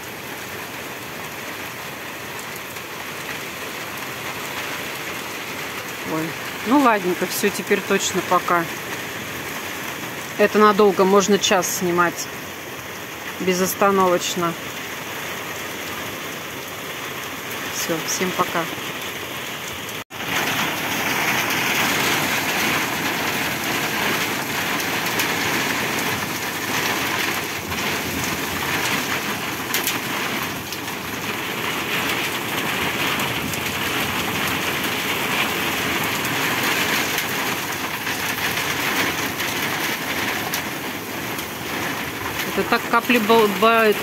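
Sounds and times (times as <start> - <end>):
heavy rain drumming on roof: 0.0 - 44.0.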